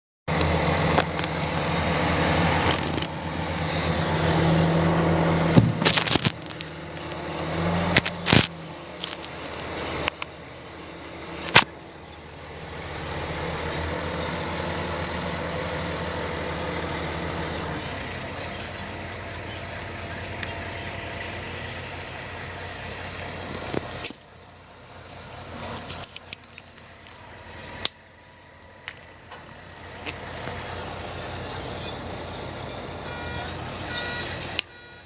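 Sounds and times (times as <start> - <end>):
excavator diesel engine running: 0.3 - 35.0.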